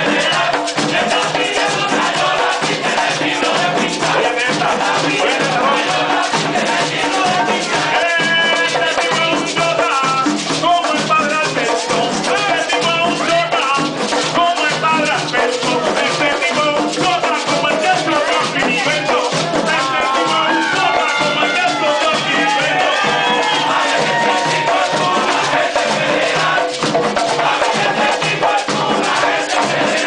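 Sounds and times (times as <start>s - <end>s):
man singing: 0.0s - 25.8s
frame drums beating: 0.0s - 30.0s.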